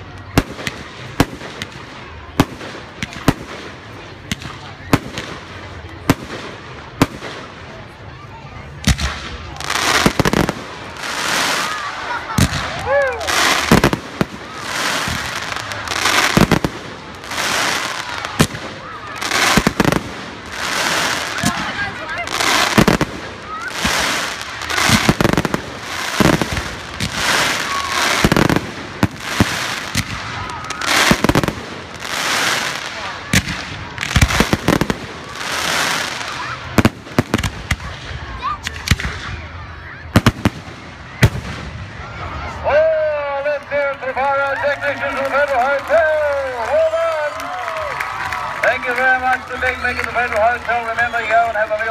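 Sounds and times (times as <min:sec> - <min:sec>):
crackling hiss of fireworks: 0:00.0 - 0:51.9.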